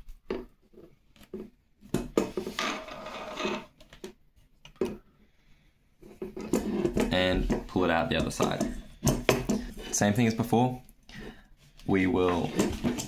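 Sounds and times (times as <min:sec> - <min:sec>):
string rustling and scraping: 0:00.0 - 0:13.0.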